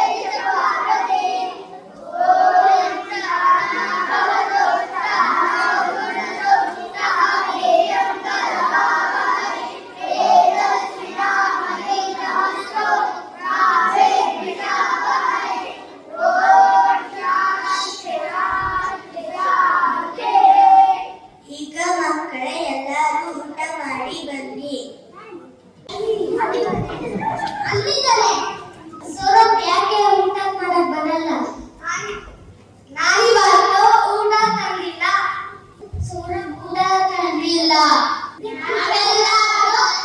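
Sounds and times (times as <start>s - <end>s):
children singing together: 0.0s - 21.5s, 25.9s - 32.2s, 33.0s - 40.0s.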